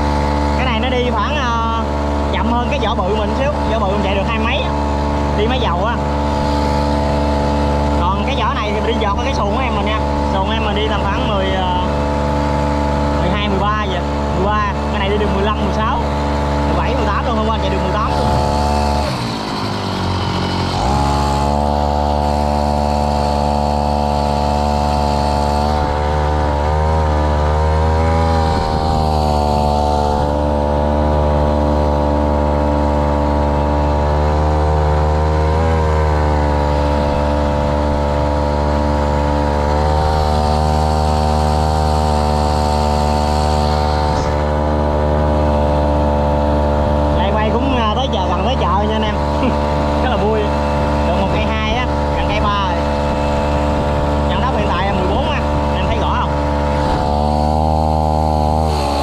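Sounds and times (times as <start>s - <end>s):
small boat engine running: 0.0s - 59.0s.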